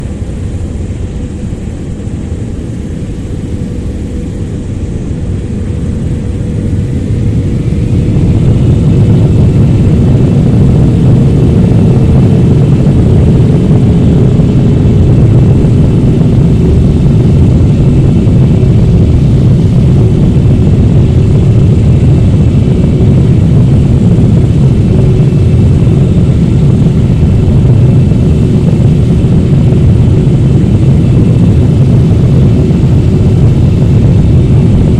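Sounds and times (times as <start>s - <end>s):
jet engine rumble: 0.0s - 34.9s
jet engine whine rising: 0.0s - 34.9s.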